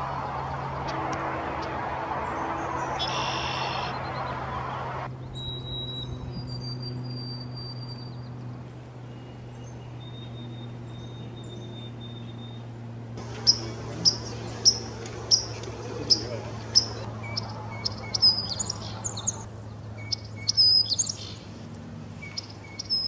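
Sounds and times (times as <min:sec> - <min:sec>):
small birds whistling: 0:00.0 - 0:08.4, 0:09.0 - 0:12.6, 0:13.2 - 0:21.5, 0:22.2 - 0:23.0
small birds chirping: 0:00.0 - 0:23.0.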